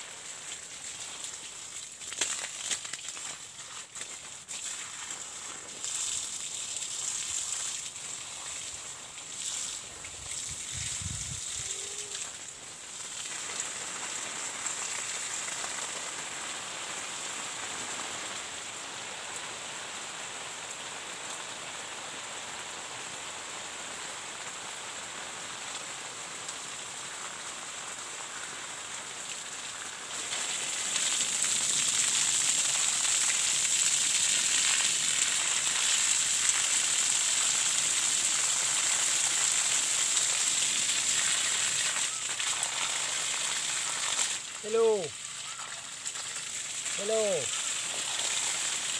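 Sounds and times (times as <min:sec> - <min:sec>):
water from garden hose splashing: 0:00.0 - 0:19.4, 0:26.4 - 0:48.9.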